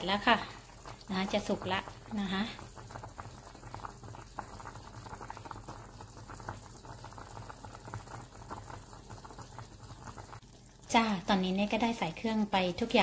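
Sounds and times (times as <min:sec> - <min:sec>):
soup bubbling at rolling boil: 0:00.0 - 0:13.0.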